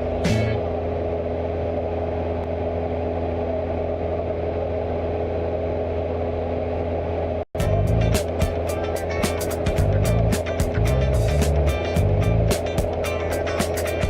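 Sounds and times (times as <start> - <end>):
aircraft engine and propeller droning: 0.0 - 14.0.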